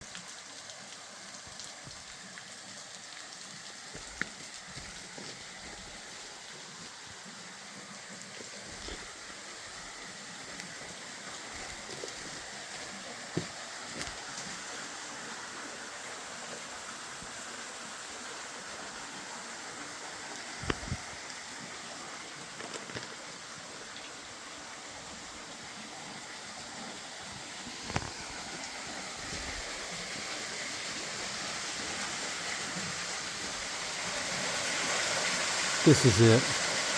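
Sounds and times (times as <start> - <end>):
creek water flowing: 0.0 - 36.9.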